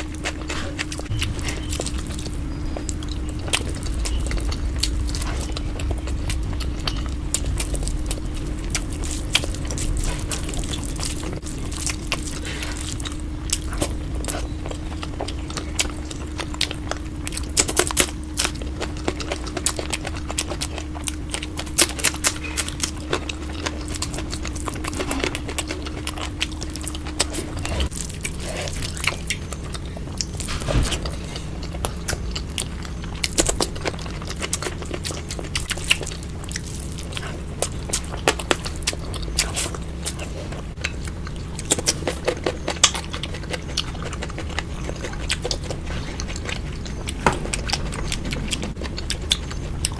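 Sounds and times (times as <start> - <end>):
food crunching: 0.0 - 49.9
low steady hum: 0.0 - 49.9
mouth chewing and biting: 0.0 - 49.9.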